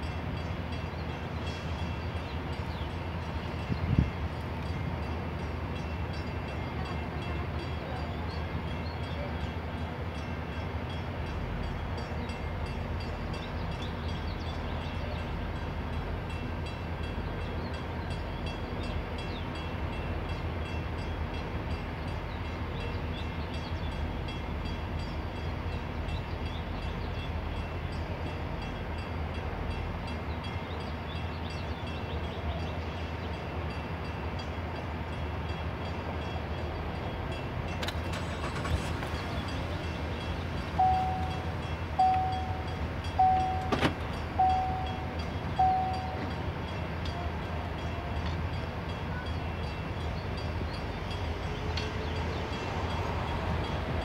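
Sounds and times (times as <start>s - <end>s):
engines idling in traffic: 0.0s - 54.0s.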